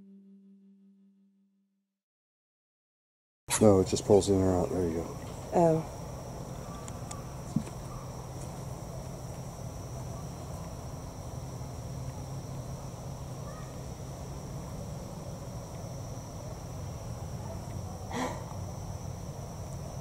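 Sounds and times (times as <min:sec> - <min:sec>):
night insects trilling: 0:03.5 - 0:20.0.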